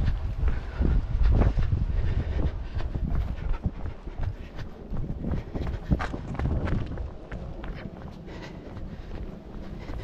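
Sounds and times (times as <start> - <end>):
footsteps crackling on ground: 0.0 - 10.0
wind buffeting microphone: 0.0 - 10.0.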